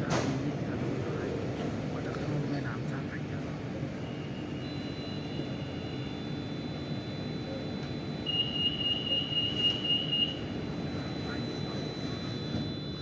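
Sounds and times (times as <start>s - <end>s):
train low rumble: 0.0s - 8.3s, 9.1s - 13.0s
high electronic warning tone: 0.0s - 13.0s.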